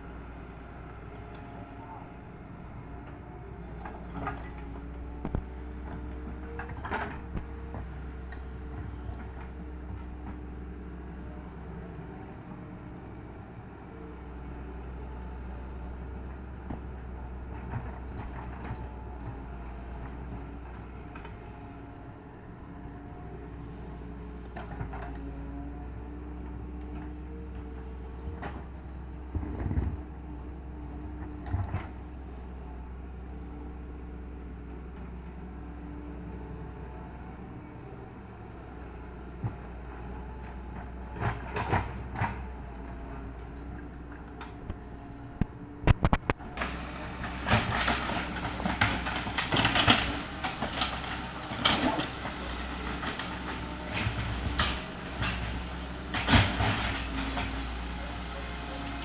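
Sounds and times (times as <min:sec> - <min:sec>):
excavator diesel engine hum: 0:00.0 - 0:59.0.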